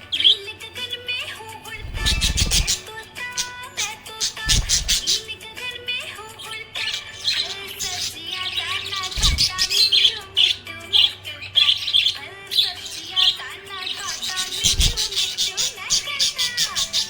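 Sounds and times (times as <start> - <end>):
budgerigar chirping: 1.8 - 5.3, 6.8 - 17.0.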